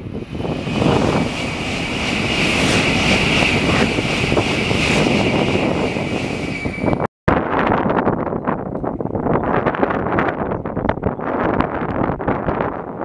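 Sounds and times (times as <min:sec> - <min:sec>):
bullet train rushing roar: 0:00.0 - 0:10.8.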